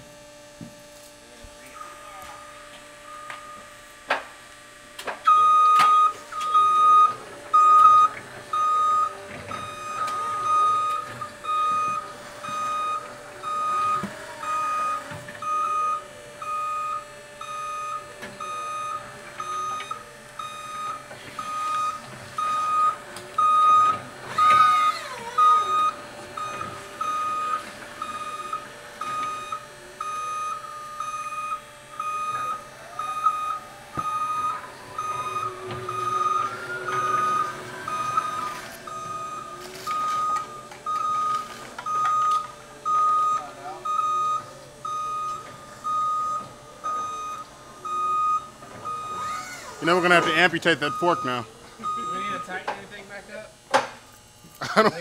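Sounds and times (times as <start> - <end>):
constant hum: 0.0 - 55.0
forklift warning beeper: 1.5 - 3.8, 5.2 - 52.7.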